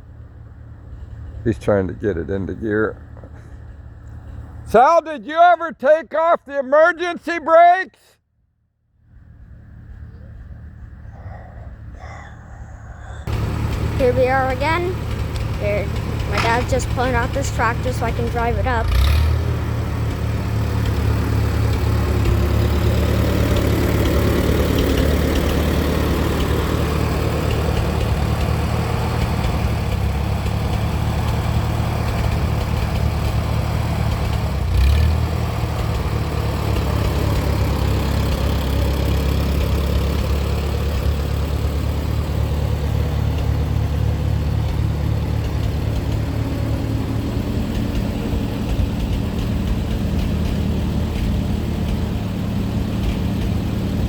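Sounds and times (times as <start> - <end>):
tractor engine running: 0.0 - 6.0, 12.6 - 54.0.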